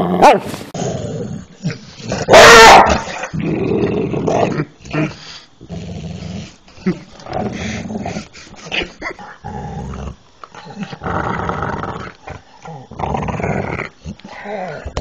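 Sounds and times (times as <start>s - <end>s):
dog growling: 0.0s - 15.0s.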